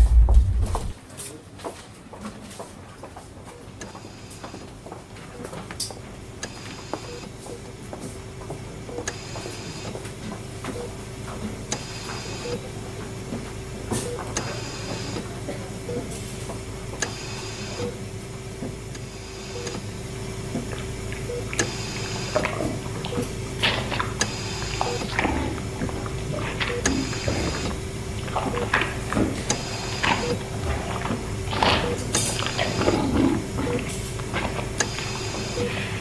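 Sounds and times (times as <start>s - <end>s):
steady low hum: 0.0s - 1.0s, 6.2s - 36.0s.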